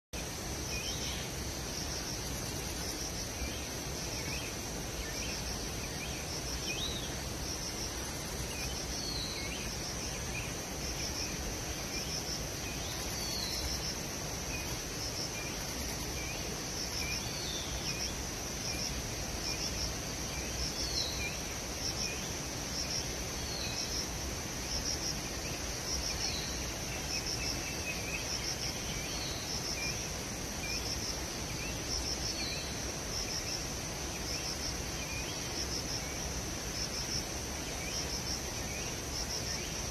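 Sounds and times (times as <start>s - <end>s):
high-pitched pulsing insect chorus: 0.2s - 39.9s
low background hiss: 0.2s - 39.9s.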